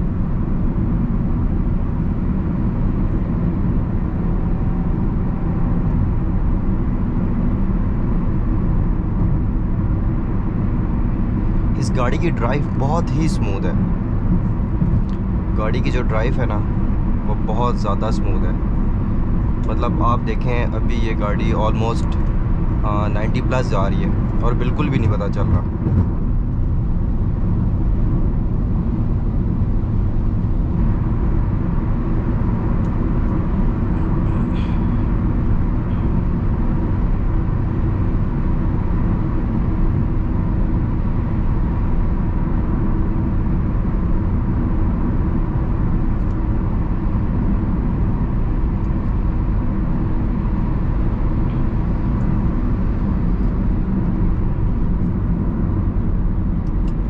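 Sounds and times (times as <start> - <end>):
car road and engine drone: 0.0 - 57.0.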